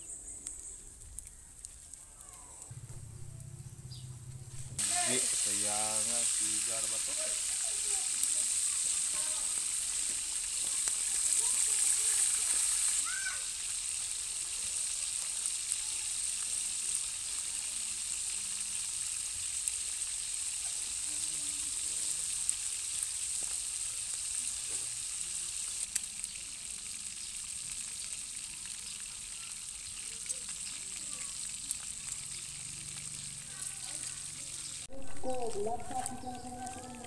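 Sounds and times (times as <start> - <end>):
food sizzling in hot oil: 0.0 - 37.0
oil popping: 1.0 - 37.0.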